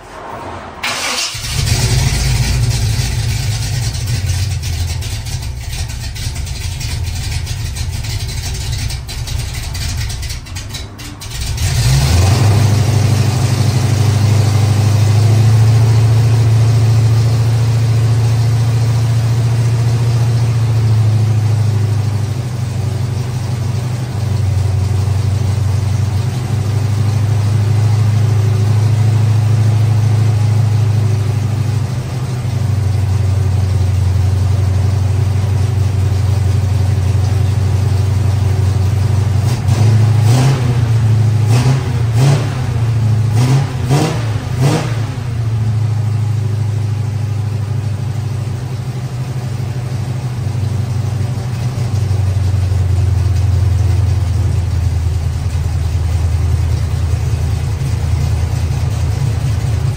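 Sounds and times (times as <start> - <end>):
car engine idling: 0.0 - 40.2, 40.8 - 59.9.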